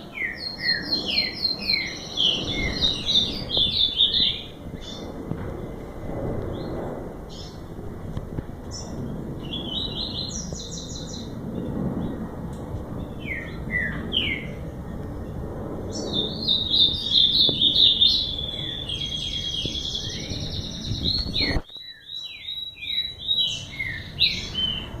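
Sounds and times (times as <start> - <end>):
low background noise: 0.0 - 25.0
songbird singing: 0.0 - 25.0.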